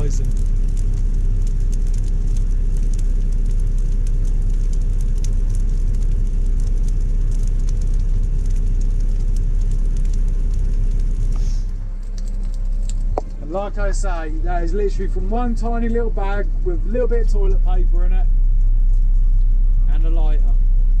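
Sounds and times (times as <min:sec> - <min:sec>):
burning brush pile crackling: 0:00.0 - 0:21.0
excavator diesel engine running: 0:00.0 - 0:21.0.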